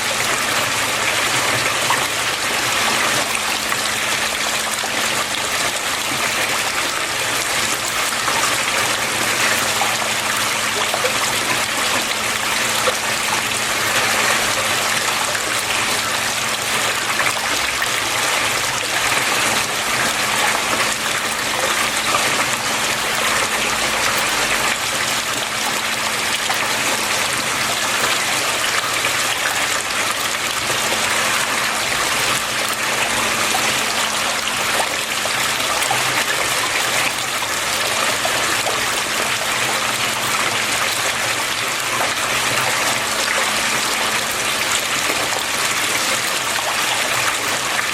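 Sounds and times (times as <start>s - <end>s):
water flowing and splashing: 0.0s - 47.9s.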